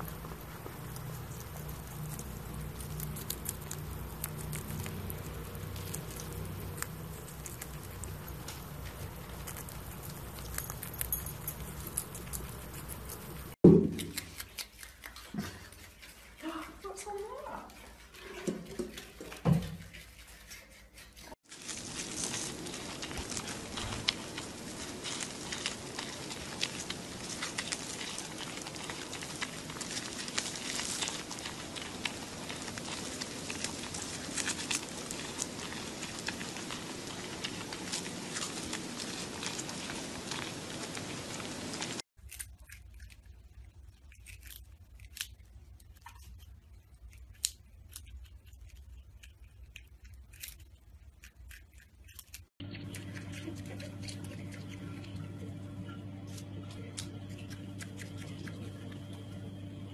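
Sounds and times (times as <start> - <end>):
animal chewing leaves: 0.0 - 59.9
animals nibbling food: 0.0 - 59.9.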